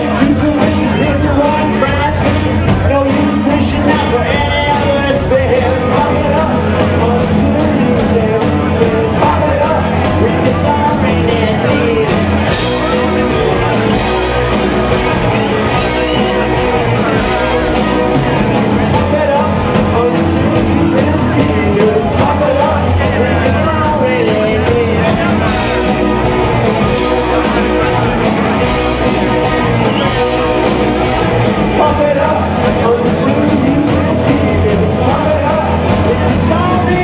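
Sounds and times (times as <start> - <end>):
fast drumbeat: 0.0 - 37.0
person singing: 0.0 - 37.0.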